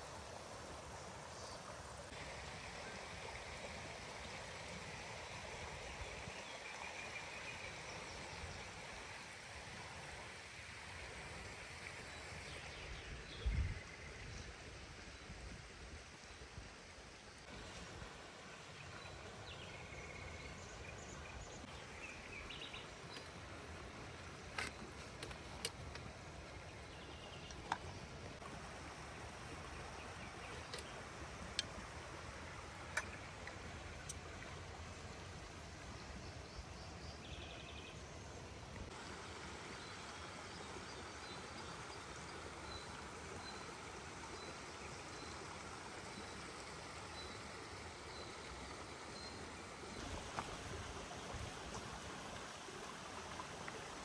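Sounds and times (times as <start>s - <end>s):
stream running water: 0.0s - 54.0s.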